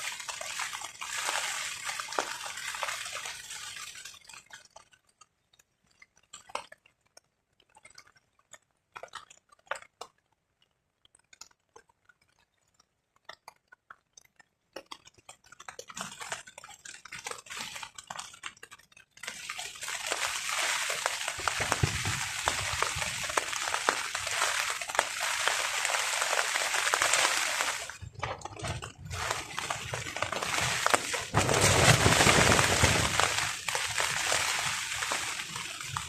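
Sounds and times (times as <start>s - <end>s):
rain pattering on a tarp: 0.0s - 36.0s.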